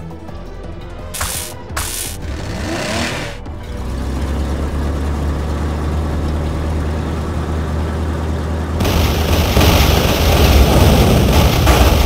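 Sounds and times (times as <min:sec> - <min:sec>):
cartoon truck engine rumble: 0:01.1 - 0:12.0.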